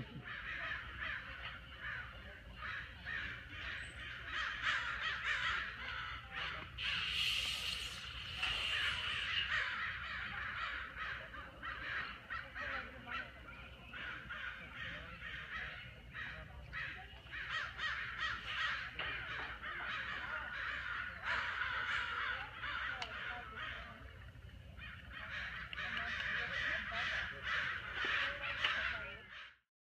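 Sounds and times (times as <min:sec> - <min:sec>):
chorus of birds calling: 0:00.0 - 0:29.6.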